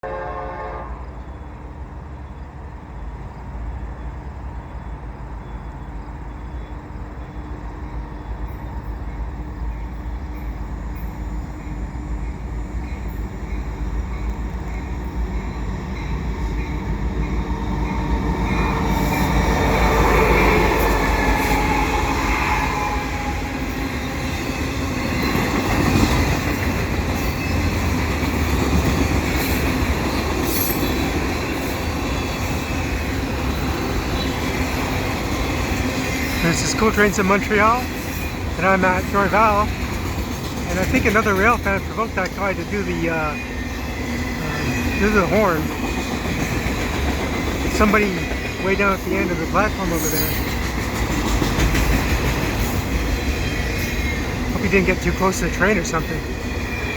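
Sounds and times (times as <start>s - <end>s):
freight train rolling past: 0.0s - 56.9s
train wheel noise: 1.1s - 56.9s.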